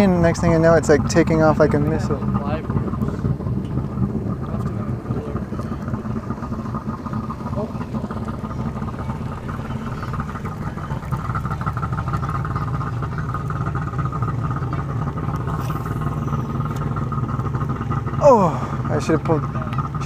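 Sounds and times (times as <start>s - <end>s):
small boat engine running: 0.0s - 20.0s.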